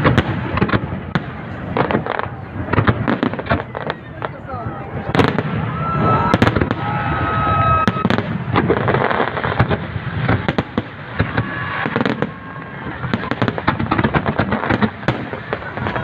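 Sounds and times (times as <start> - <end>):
fireworks bangs and crackles: 0.0 - 16.0
fireworks rumble: 0.0 - 16.0.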